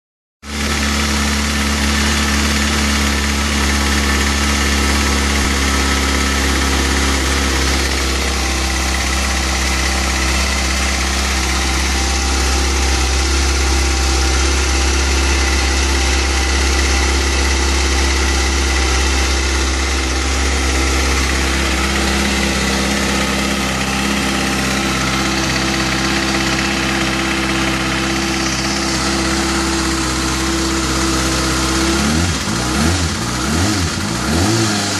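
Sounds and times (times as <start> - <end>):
loud engine ticking: 0.4 - 34.9
motorcycle engine idling: 0.5 - 34.9.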